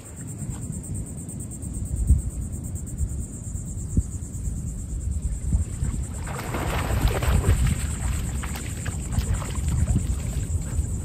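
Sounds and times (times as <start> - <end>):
insects trilling: 0.0 - 11.0
wind buffeting microphone: 0.0 - 11.0.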